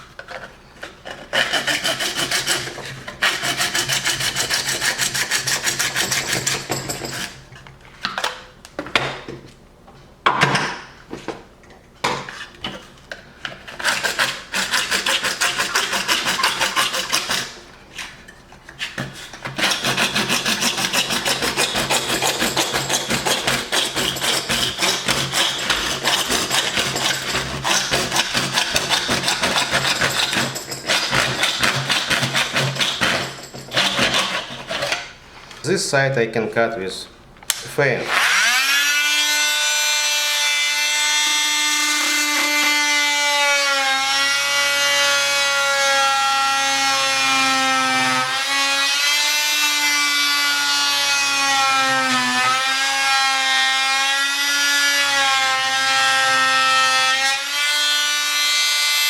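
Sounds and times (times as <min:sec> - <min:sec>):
hand saw cutting: 0:01.0 - 0:07.4, 0:13.4 - 0:35.2, 0:38.1 - 0:59.0.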